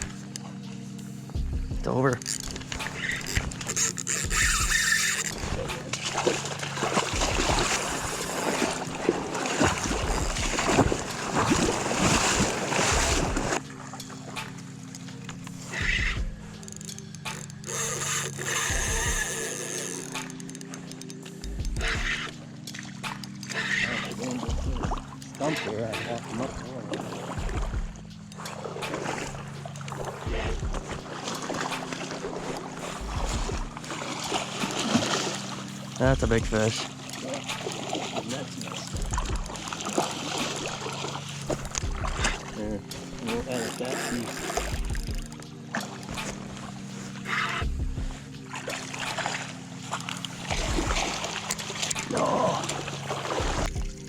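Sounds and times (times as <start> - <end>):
boat motor running: 0.0 - 54.0
water splashing and sloshing: 0.0 - 54.0.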